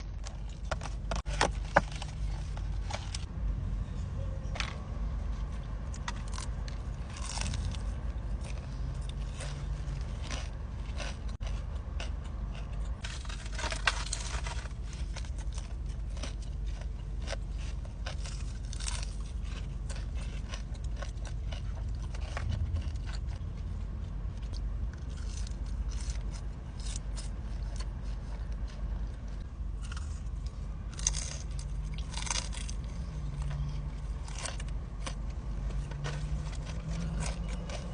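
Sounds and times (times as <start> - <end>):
steady low hum: 0.0 - 37.9
crunchy chewing: 4.8 - 37.9.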